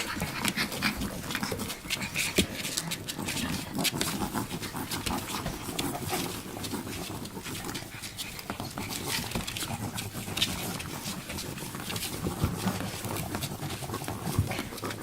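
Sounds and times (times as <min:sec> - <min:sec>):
puppies making small noises: 0:00.0 - 0:15.0
puppies scuffling: 0:00.0 - 0:15.0.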